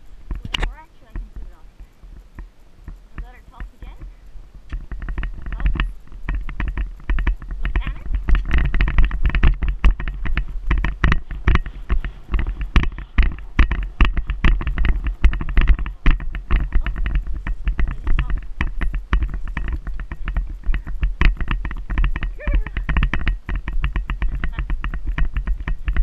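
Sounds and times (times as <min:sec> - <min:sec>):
horse hooves on sand: 0:00.0 - 0:26.0
wind on microphone: 0:00.0 - 0:26.0.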